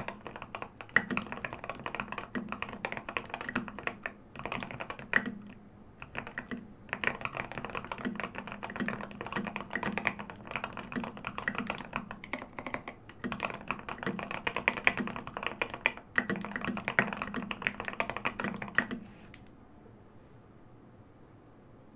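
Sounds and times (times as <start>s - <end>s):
mechanical keyboard typing: 0.0s - 19.5s.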